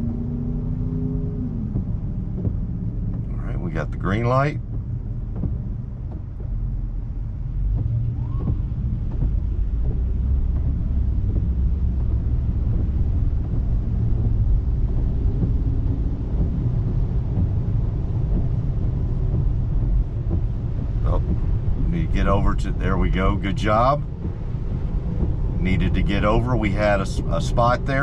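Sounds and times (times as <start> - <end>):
road and tyre rumble in car: 0.0 - 28.0.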